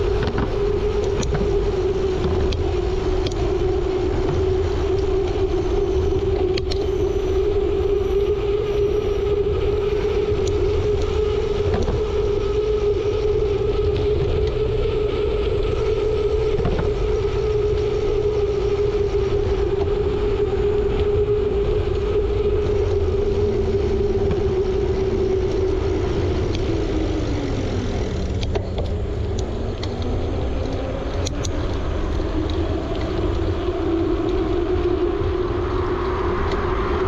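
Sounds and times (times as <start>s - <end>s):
steady hum: 0.0s - 37.0s
wind rumbling on microphone: 0.0s - 37.0s.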